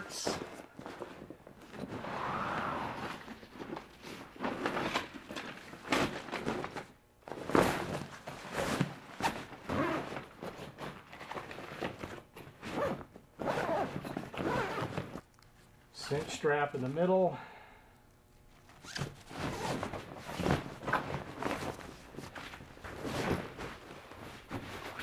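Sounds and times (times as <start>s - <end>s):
fabric and gear rustling: 0.0s - 15.2s, 18.6s - 25.0s.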